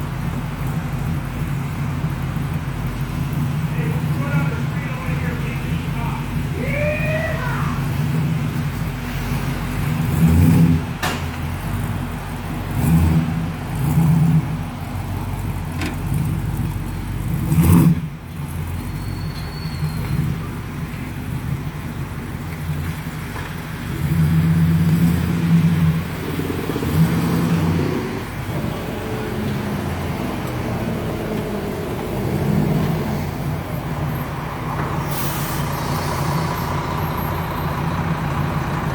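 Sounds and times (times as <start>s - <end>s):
engine throttle blips: 0.0s - 6.8s, 7.4s - 38.9s
car engine idling: 0.0s - 38.9s.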